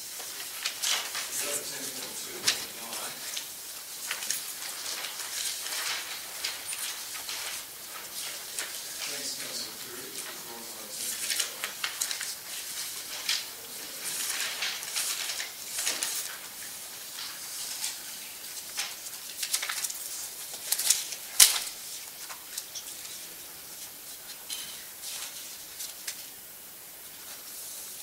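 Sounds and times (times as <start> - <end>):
papers rustling on a desk: 0.0 - 26.4.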